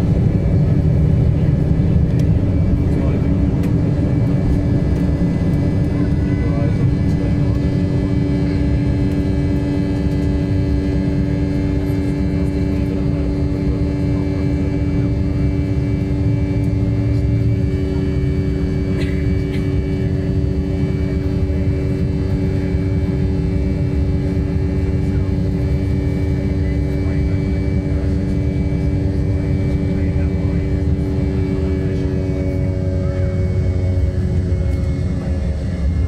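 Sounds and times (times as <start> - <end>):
jet engines rumbling: 0.0 - 36.0
multi-tone hum: 0.0 - 36.0.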